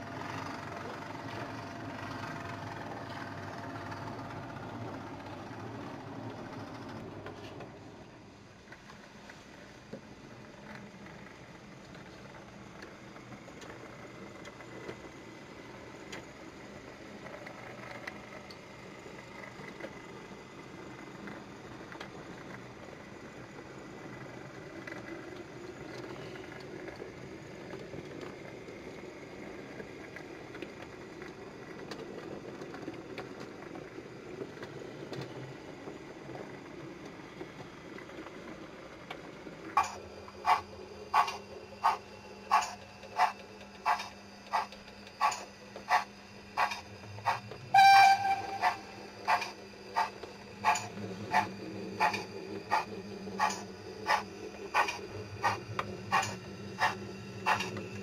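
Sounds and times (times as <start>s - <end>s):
model train rolling on track: 0.0s - 58.0s.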